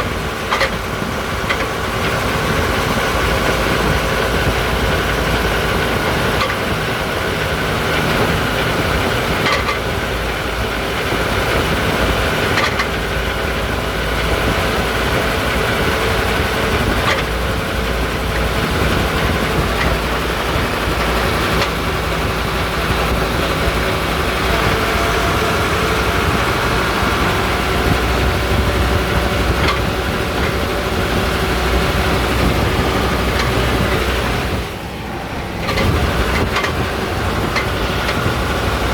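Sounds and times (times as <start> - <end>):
bus engine running: 0.0 - 38.9
rear axle rattle: 0.0 - 38.9.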